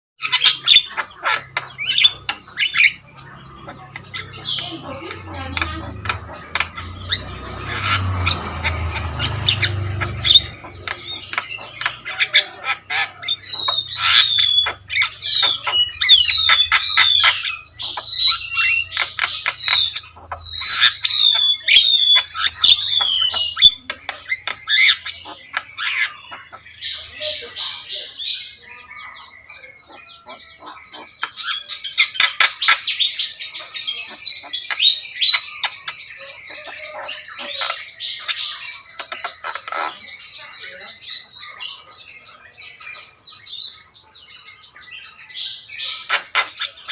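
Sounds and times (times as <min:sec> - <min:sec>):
bird singing clicks and squawks: 0:00.2 - 0:26.8, 0:29.8 - 0:42.5, 0:45.2 - 0:46.9.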